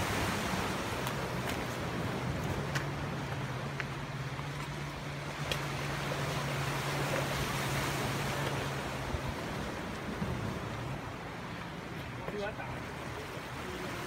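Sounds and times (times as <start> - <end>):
rough sea surf washing: 0.0 - 14.0.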